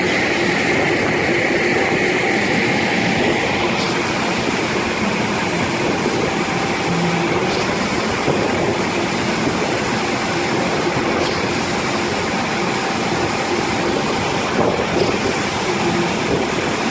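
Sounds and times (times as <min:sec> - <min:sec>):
construction machinery running: 0:00.0 - 0:16.9.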